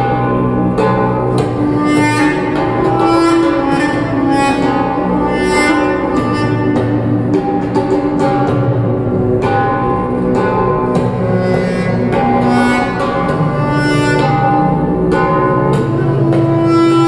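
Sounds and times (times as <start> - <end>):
duduk slow melody: 0.0 - 17.0
low accompanying notes: 0.0 - 17.0.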